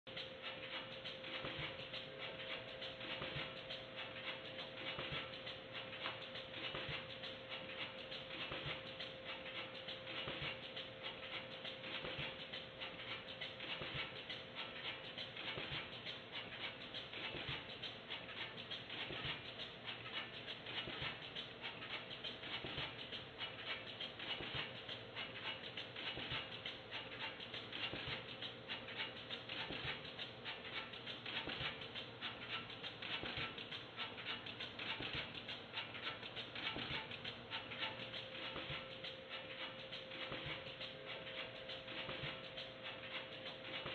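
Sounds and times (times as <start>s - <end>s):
machinery clattering and ticking: 0.1s - 43.9s.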